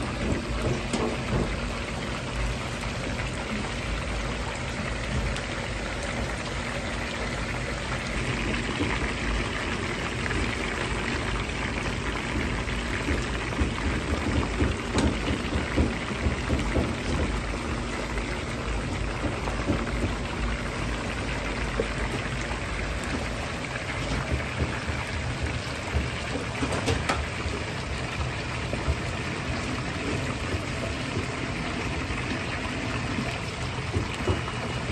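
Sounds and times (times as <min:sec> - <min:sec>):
deep-frying sizzle and bubbling: 0:00.0 - 0:34.9.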